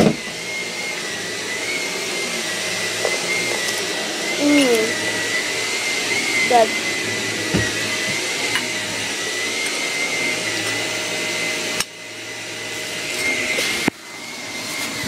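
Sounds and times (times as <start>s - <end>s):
vacuum cleaner with high whine: 0.0s - 15.0s.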